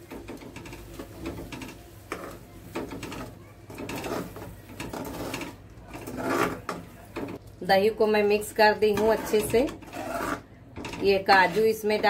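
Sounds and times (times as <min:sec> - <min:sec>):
spoon scraping metal pan: 0:00.0 - 0:07.4, 0:08.4 - 0:12.0.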